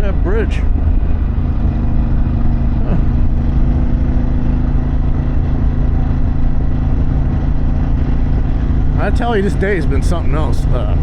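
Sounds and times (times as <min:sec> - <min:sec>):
motorcycle engine cruising: 0:00.0 - 0:11.0
wind and road rumble: 0:00.0 - 0:11.0.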